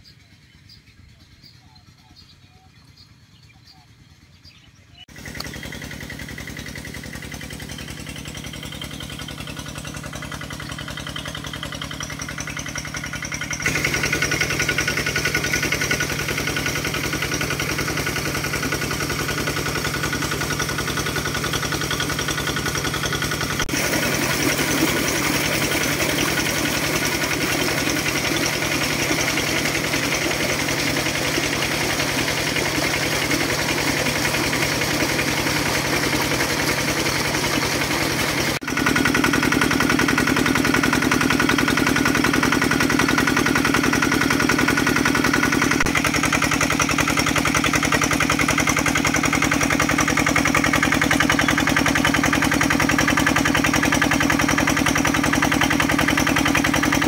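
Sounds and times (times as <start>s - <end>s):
water pump engine running: 0.0s - 57.0s
water gushing from pipe: 5.7s - 57.0s.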